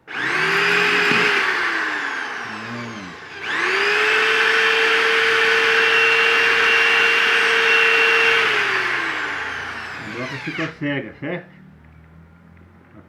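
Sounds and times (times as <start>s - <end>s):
electric drill whining: 0.0s - 10.9s.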